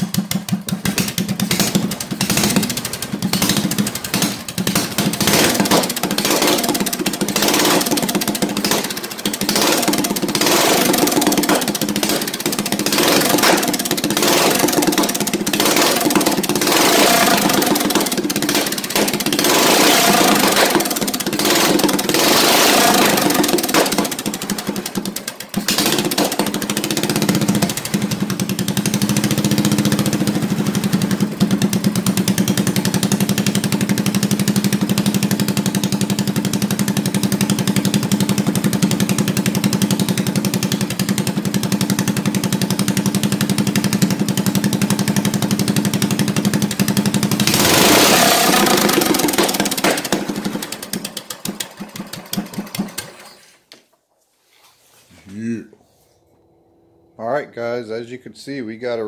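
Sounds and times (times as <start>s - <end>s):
mini bike engine revving and idling: 0.0s - 53.8s.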